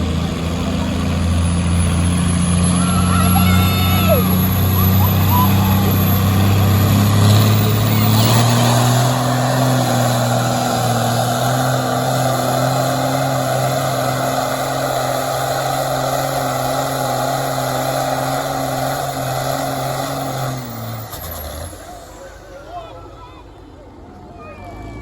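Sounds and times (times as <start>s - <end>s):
diesel tractor engine at full throttle: 0.0s - 25.0s.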